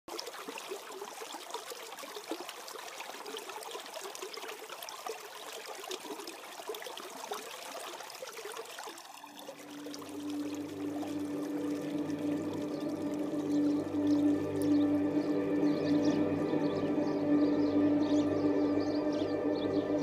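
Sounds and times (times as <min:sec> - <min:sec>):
small splashes and drips: 0:00.1 - 0:17.7
stream water trickling: 0:00.1 - 0:20.0.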